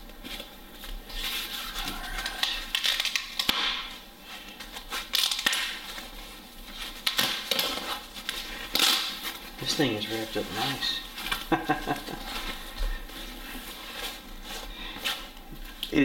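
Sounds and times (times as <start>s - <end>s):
foam packing crinkling: 0.0s - 16.0s.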